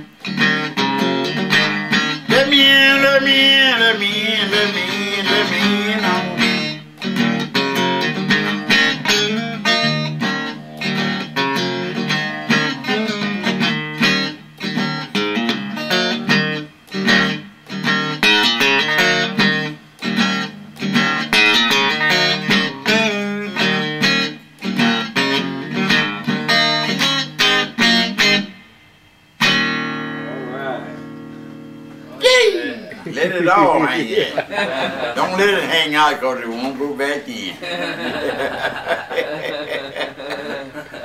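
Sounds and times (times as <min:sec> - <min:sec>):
electric blues guitar: 0:00.0 - 0:41.0.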